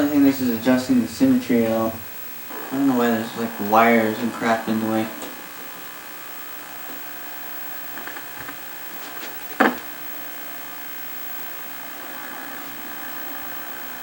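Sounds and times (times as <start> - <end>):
tube tv hiss and buzz: 0.0 - 14.0.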